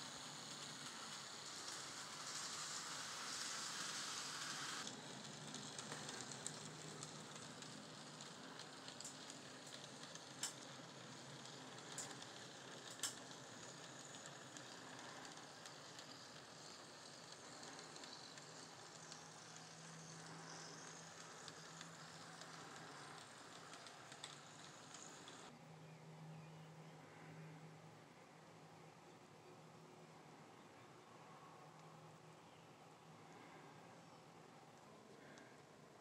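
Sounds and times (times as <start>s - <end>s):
model train wheels and motors hiss: 0.0s - 25.6s, 29.4s - 36.0s.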